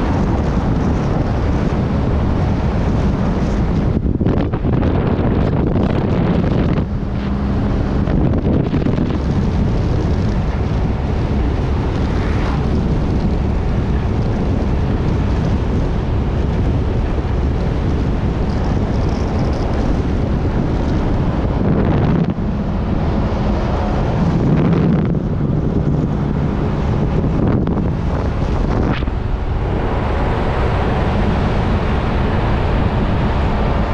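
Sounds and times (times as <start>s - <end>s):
road and engine noise: 0.0s - 33.9s
wind rushing over microphone: 0.0s - 33.9s.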